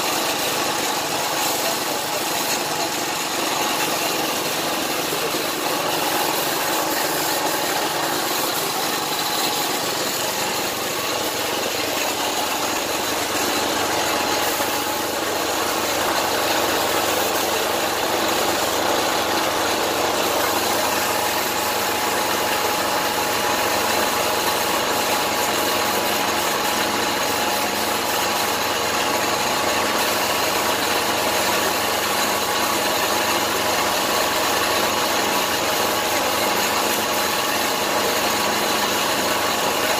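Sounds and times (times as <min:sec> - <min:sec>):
air compressor running: 0:00.0 - 0:39.9
spray gun hissing: 0:00.0 - 0:39.9.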